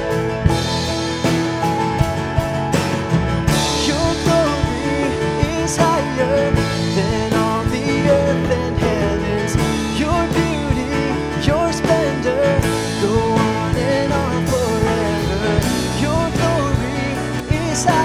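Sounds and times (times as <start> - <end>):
worship band with guitar and beat: 0.0 - 18.0
person singing: 3.5 - 18.0.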